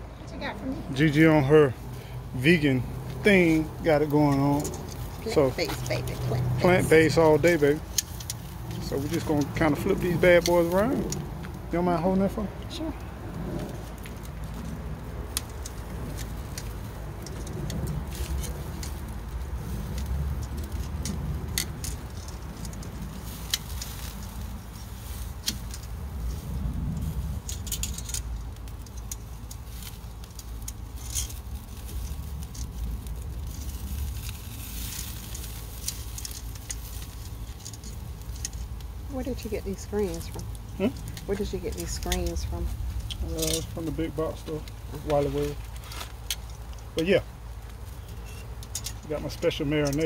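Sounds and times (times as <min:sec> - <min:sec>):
low steady rumble: 0:00.0 - 0:50.0.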